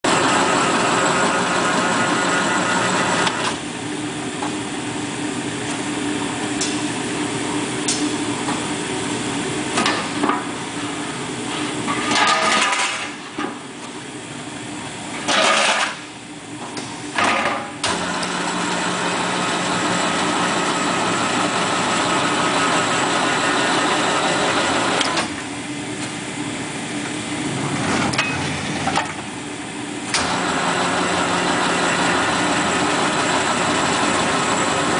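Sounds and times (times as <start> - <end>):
machine hum: 0.0 - 34.9.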